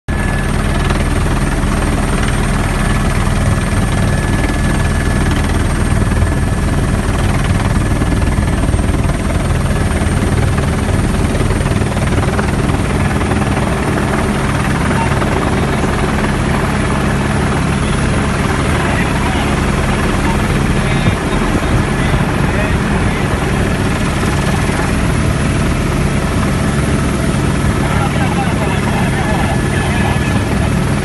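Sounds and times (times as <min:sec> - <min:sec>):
helicopter rotor and engine: 0:00.1 - 0:31.0
thin steady whine: 0:00.1 - 0:31.0.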